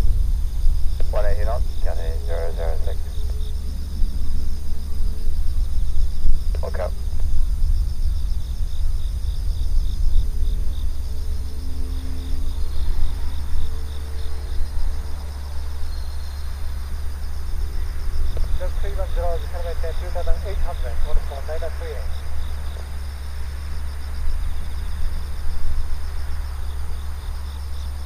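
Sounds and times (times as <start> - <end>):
insects chirping: 0.0 - 28.0
steady low rumble: 0.0 - 28.0.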